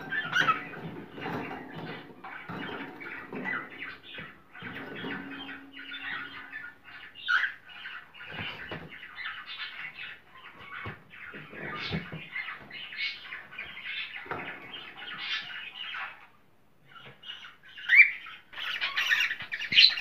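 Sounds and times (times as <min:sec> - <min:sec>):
cockatiels chattering: 0:00.0 - 0:20.0.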